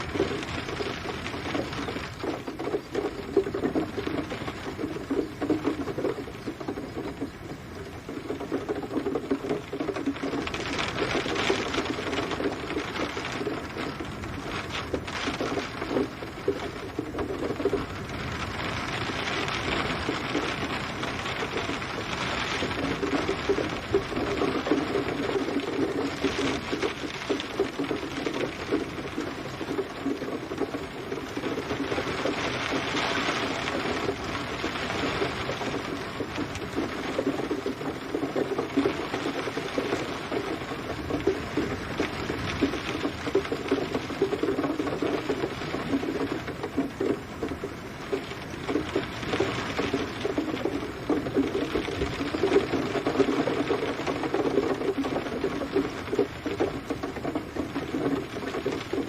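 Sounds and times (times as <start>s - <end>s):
rain drops hitting a surface: 0.0s - 59.0s.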